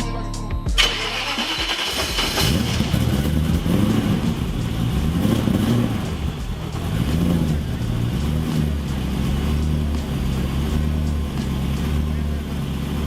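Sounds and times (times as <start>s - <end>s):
car engine revving: 0.8s - 13.0s.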